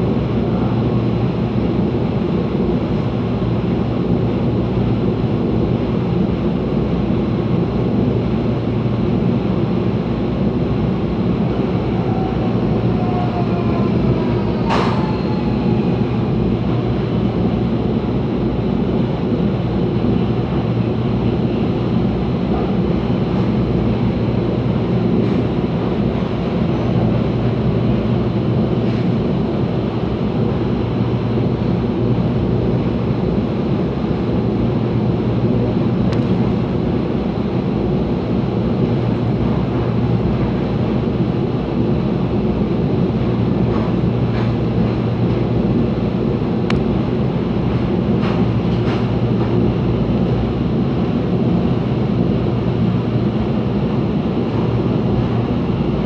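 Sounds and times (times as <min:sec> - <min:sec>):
train rumbling from inside: 0:00.0 - 0:56.0.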